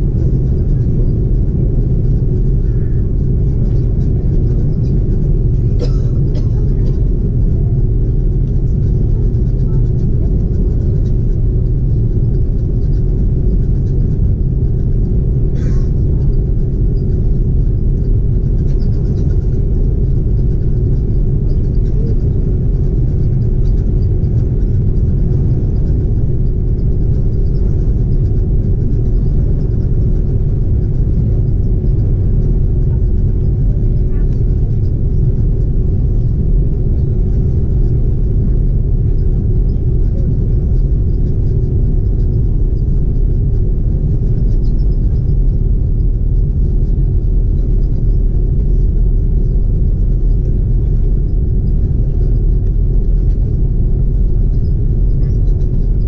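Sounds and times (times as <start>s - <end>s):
aircraft cabin rumble: 0.0s - 56.0s
jet engines humming: 0.0s - 56.0s.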